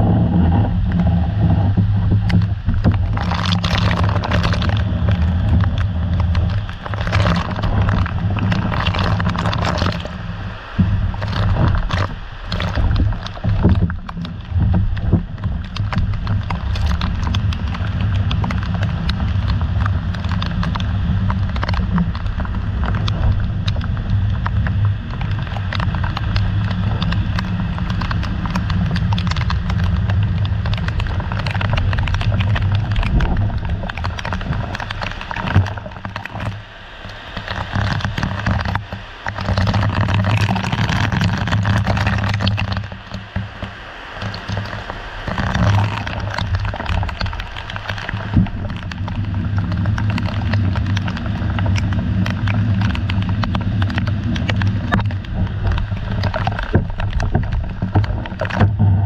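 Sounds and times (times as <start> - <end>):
raindrops tapping camera: 0.0 - 59.0
wind buffeting microphone: 0.0 - 59.0.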